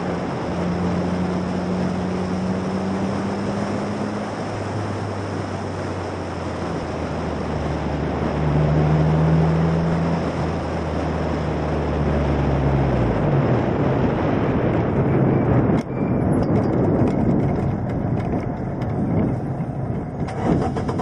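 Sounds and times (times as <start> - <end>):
race car engine pulling hard: 0.0 - 21.0
wind rushing: 0.0 - 21.0.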